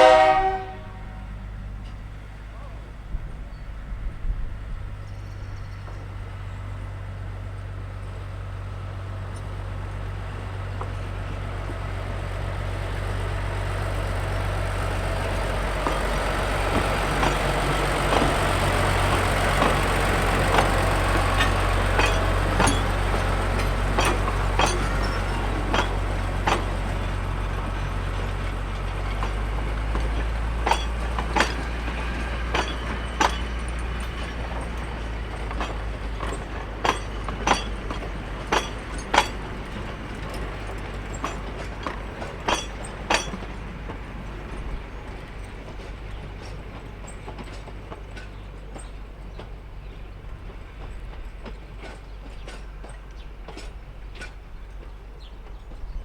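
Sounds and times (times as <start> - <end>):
diesel locomotive engine drone: 0.0 - 56.0
train wheels clicking over rail joints: 0.2 - 56.0.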